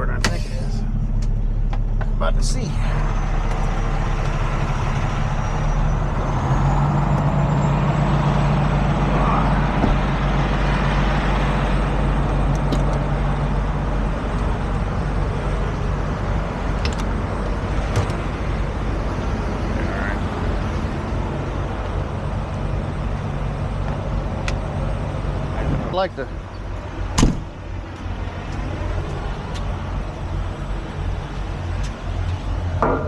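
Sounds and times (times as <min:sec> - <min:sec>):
tow truck diesel engine running: 0:00.0 - 0:33.0.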